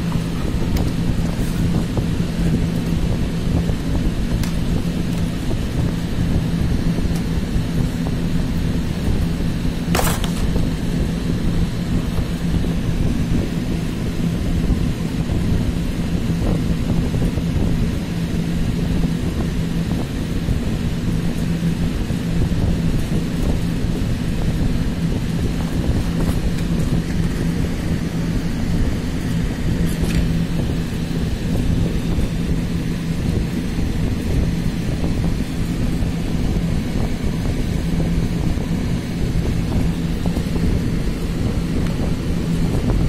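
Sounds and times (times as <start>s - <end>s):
low rumbling hum: 0.0s - 43.0s.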